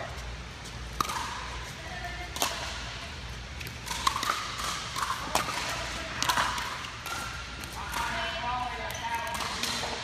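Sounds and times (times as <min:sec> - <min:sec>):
ball bouncing on court: 0:00.1 - 0:10.0
paddles striking pickleball: 0:00.8 - 0:10.0.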